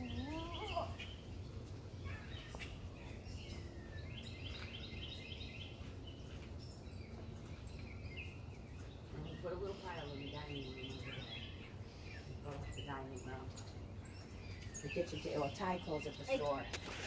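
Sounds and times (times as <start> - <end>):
songbirds chirping and singing: 0.0 - 17.0.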